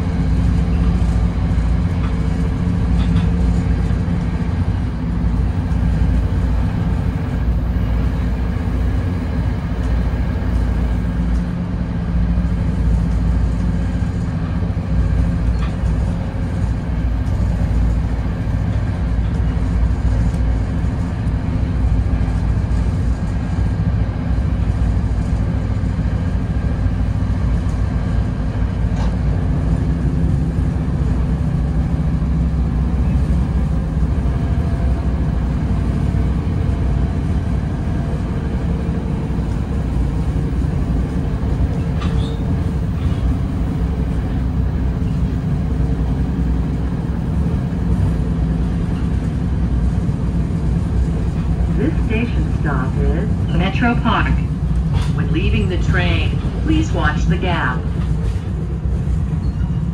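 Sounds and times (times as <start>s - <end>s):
passenger coach rumble: 0.0s - 59.9s.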